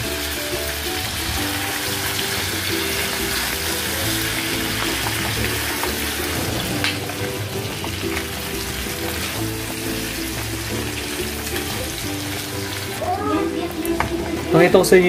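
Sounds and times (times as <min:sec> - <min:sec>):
shrimp sizzling in butter: 0:00.0 - 0:14.7
background music: 0:00.0 - 0:15.0.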